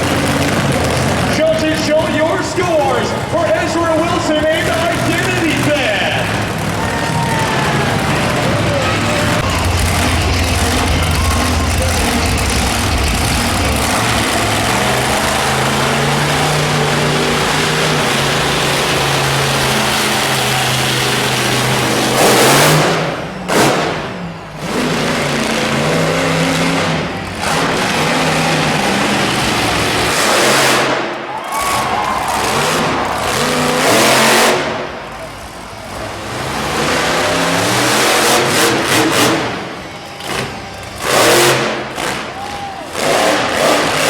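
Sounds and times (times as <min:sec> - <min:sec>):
monster truck engine revving: 0:00.0 - 0:44.0.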